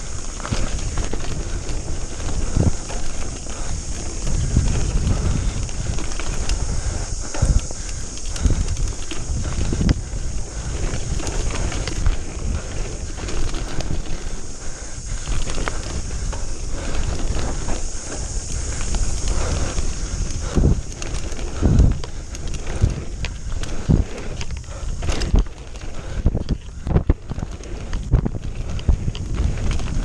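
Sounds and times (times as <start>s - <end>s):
bike rattling and knocking: 0.0s - 30.0s
bike tyres rumbling over dirt: 0.0s - 30.0s
wind rushing on microphone: 0.0s - 30.0s.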